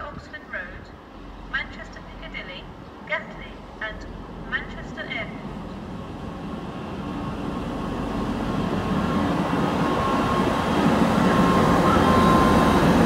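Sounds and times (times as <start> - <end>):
diesel train engines: 0.0 - 13.0
train wheels on rails: 0.9 - 13.0.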